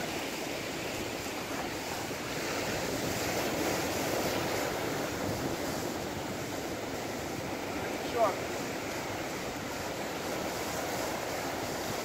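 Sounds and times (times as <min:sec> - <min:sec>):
surf breaking on rocky shore: 0:00.0 - 0:12.0
wind buffeting microphone: 0:00.0 - 0:12.0.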